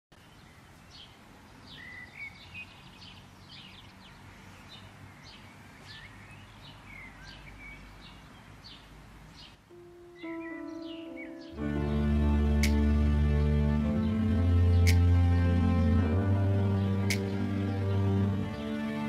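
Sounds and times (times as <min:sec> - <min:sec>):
birds chirping: 0:00.1 - 0:19.0
faint outdoor hiss: 0:00.1 - 0:19.0.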